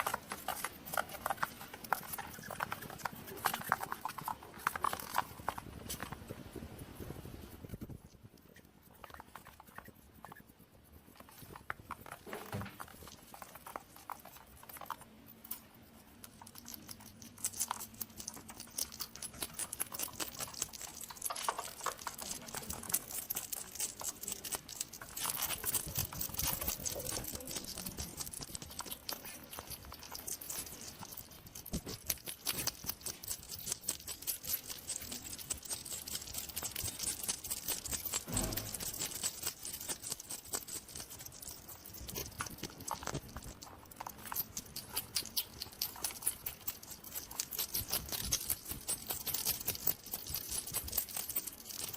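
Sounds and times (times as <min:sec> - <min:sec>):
hedgehog clicks and crackles: 0:00.0 - 0:51.9.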